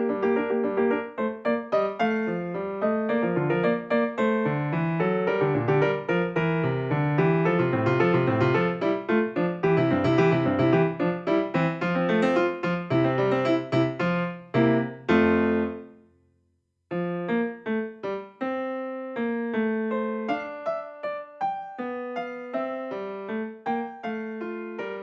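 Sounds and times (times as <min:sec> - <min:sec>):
piano music: 0:00.0 - 0:16.0, 0:16.9 - 0:25.0.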